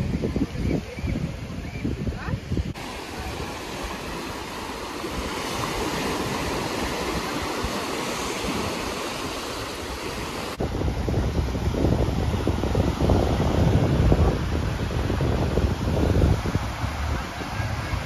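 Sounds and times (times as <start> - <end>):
waves breaking on a beach: 0.0 - 18.0.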